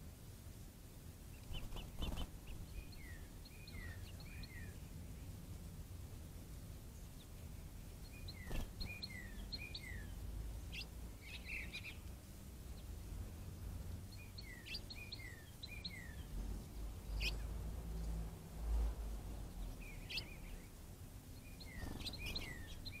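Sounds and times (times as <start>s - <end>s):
steady background hum: 0.0s - 23.0s
songbird chirping phrases: 1.3s - 5.4s, 6.9s - 18.4s, 19.0s - 23.0s.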